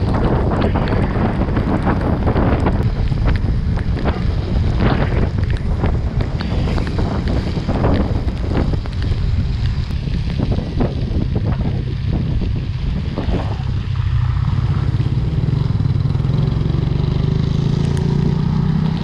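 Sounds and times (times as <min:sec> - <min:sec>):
sharp crackles: 0:00.0 - 0:16.3
wind buffeting microphone: 0:00.0 - 0:19.0.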